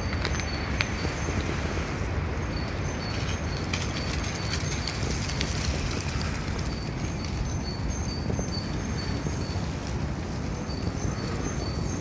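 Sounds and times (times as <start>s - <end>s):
wind blowing: 0.0s - 12.0s.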